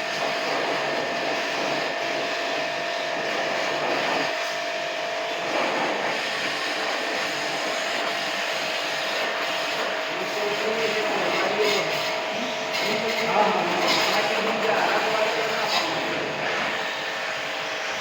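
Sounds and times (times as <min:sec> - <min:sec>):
electric pump motor whine: 0:00.0 - 0:18.0.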